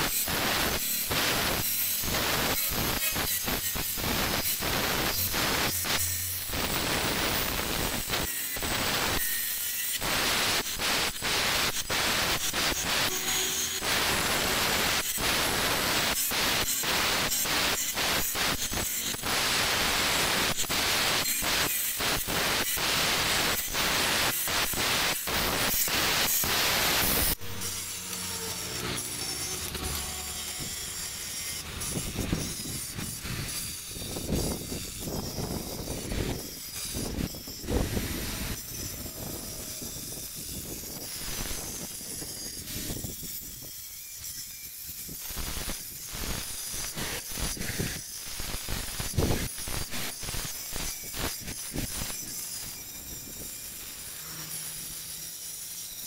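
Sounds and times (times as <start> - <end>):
electric grinder grinding stone: 0.0 - 56.0
intermittent scraping: 0.0 - 56.0.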